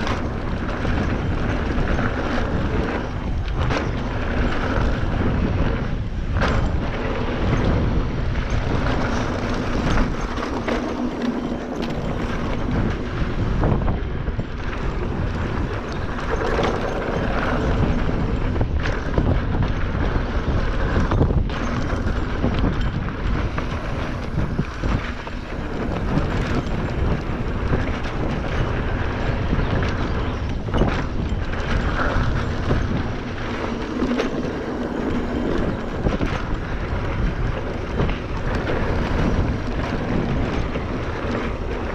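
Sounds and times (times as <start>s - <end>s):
bike knocking on bumps: 0.0s - 41.9s
mountain bike rattling: 0.0s - 41.9s
tyres rolling over dirt trail: 0.0s - 41.9s
wind buffeting microphone: 0.0s - 41.9s.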